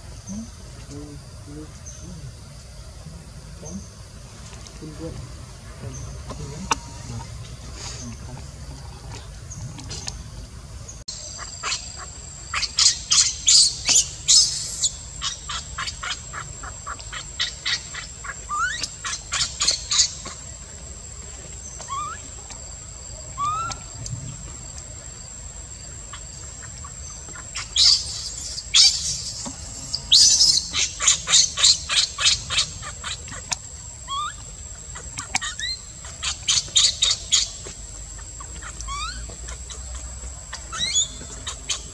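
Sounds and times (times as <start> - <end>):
birds chirping in trills: 0.0 - 41.9.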